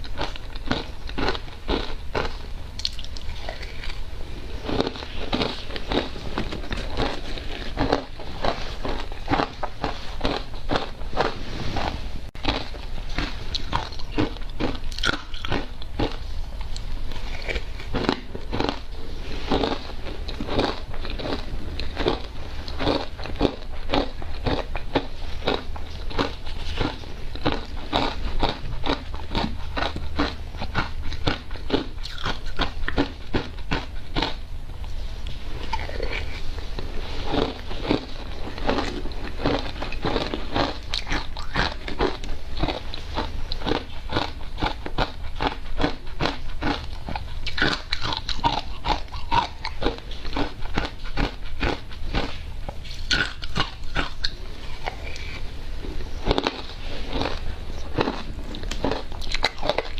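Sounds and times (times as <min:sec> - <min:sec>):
chewing crunchy ice: 0:00.0 - 0:34.5, 0:35.6 - 0:59.9.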